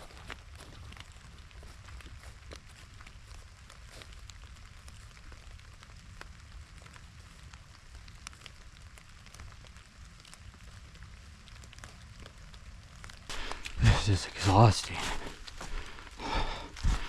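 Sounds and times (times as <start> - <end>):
light ticks and crackles: 0.0 - 17.0.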